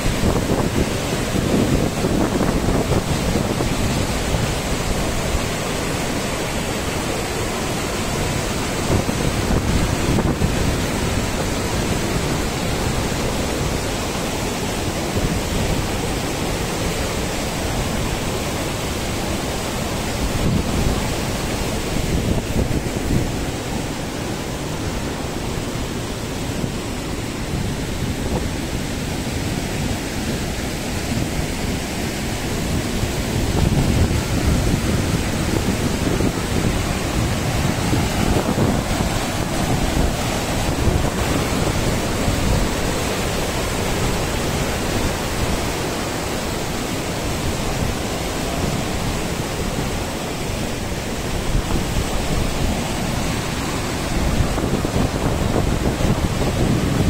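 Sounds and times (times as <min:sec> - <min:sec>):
river rushing roar: 0:00.0 - 0:57.0
wind rumbling on microphone: 0:00.0 - 0:57.0.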